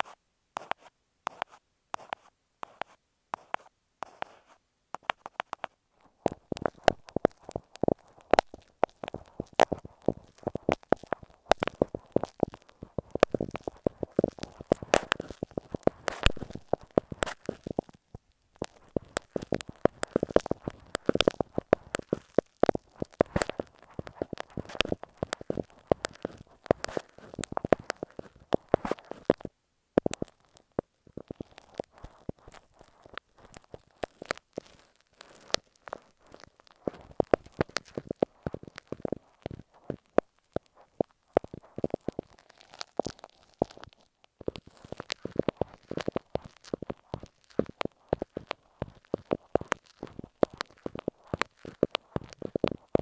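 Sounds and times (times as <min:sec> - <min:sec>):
glue stick scratching on tape: 0:00.0 - 0:05.7, 0:06.3 - 0:18.0, 0:18.6 - 0:30.6, 0:31.2 - 0:53.0.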